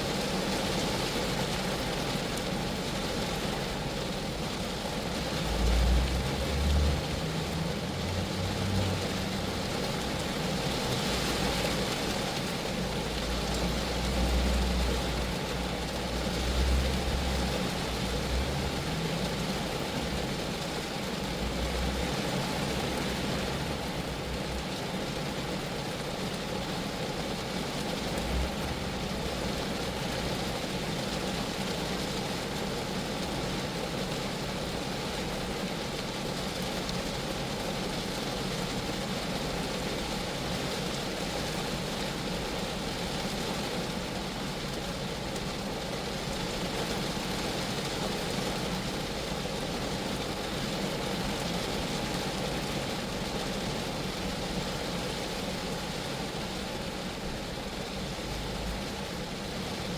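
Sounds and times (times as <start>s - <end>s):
rain falling on a car: 0.0s - 59.9s.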